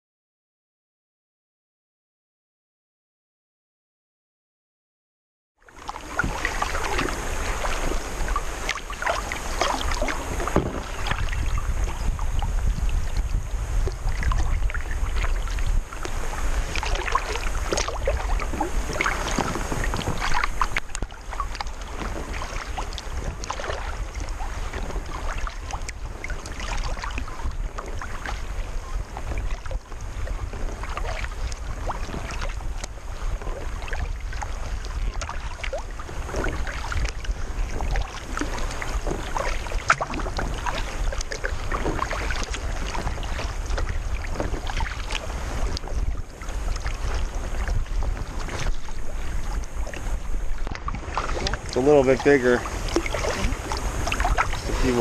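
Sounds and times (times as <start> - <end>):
paddle splashes and drips: 5.6 - 55.0
water lapping along hull: 5.6 - 55.0
wind rumble on microphone: 5.7 - 55.0.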